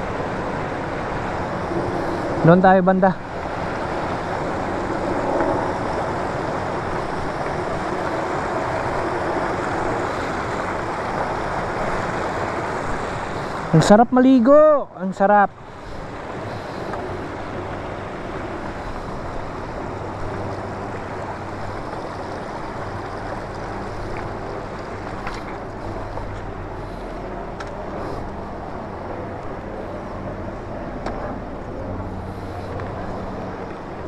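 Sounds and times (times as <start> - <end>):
low hum: 0.0 - 14.0, 14.8 - 34.0
river running over rocks: 0.0 - 34.0.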